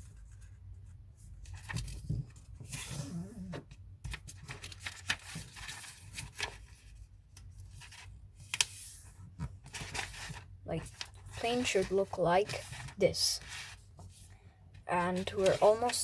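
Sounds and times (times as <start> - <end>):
paper being folded and creased: 0.0 - 14.3, 14.9 - 16.0.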